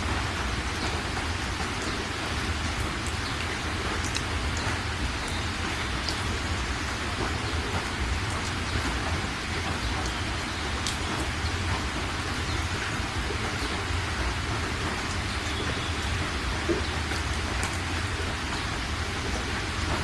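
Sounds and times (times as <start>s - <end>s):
heavy rain hiss: 0.0s - 20.0s
sharp raindrop ticks: 0.0s - 20.0s.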